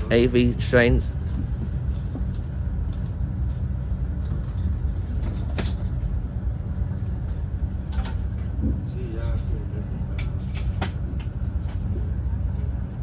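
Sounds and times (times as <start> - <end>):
train rumble inside passenger car: 0.0 - 13.0.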